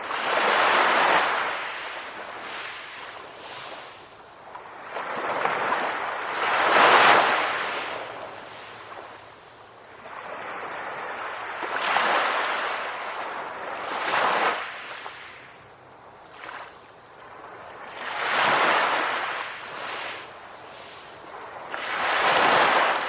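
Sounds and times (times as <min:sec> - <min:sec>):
waves breaking on shore: 0:00.0 - 0:23.0.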